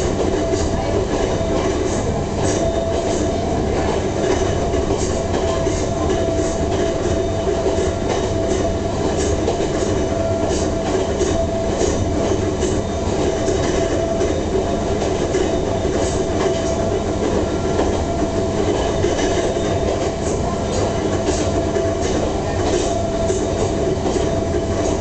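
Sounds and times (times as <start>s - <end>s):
train interior rumble: 0.0s - 25.0s.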